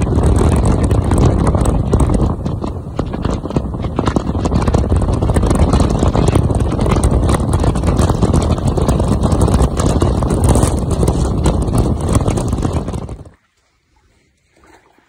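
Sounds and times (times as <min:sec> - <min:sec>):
tyre road noise: 0:00.0 - 0:13.4
wind buffeting microphone: 0:00.0 - 0:13.4.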